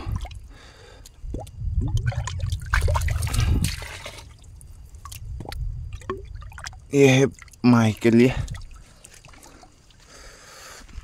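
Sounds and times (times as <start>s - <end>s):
water splashing and trickling: 0.0s - 10.4s.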